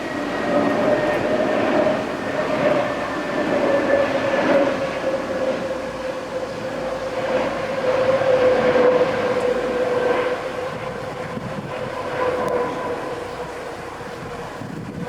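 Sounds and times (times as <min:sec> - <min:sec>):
jet engines drone with whine: 0:00.0 - 0:15.0.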